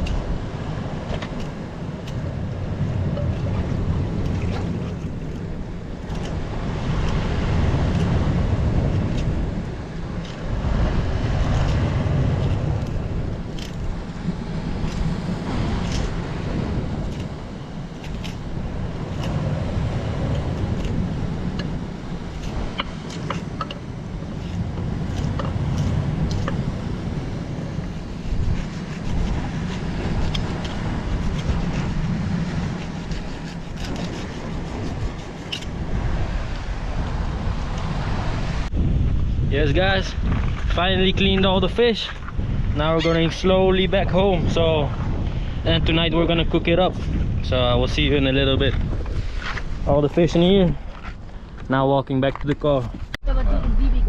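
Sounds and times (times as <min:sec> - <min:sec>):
surf washing: 0:00.0 - 0:54.0
wind buffeting microphone: 0:00.0 - 0:54.0.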